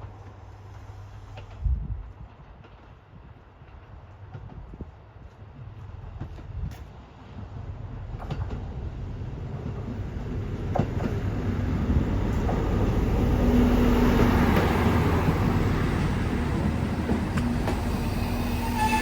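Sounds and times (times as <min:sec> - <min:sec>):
diesel railcar rumbling: 0:00.0 - 0:19.0.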